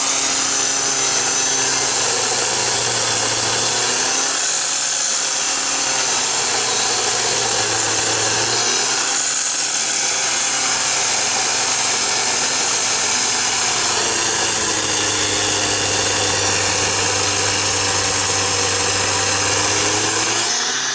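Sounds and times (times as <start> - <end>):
small two-stroke engine running hard: 0.0 - 20.9.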